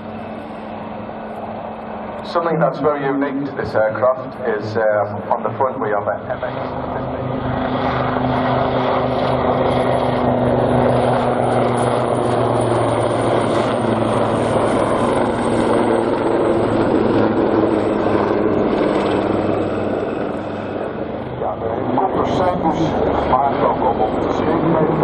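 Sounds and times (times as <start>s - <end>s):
helicopter rotor drone: 0.0s - 25.0s.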